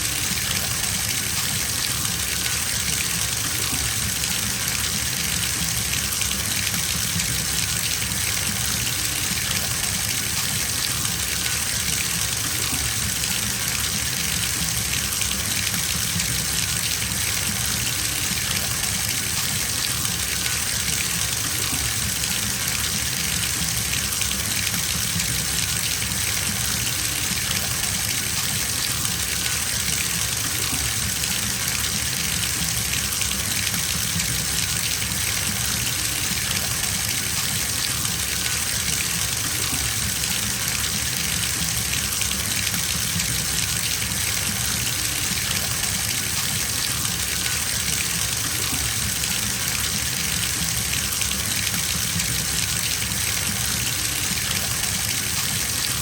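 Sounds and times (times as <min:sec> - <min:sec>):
water pouring into a bathtub: 0:00.0 - 0:56.0.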